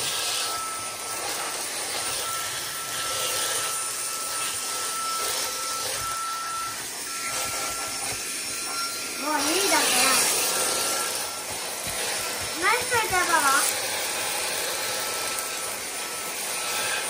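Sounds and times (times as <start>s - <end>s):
handheld vacuum cleaner running: 0.0s - 17.0s.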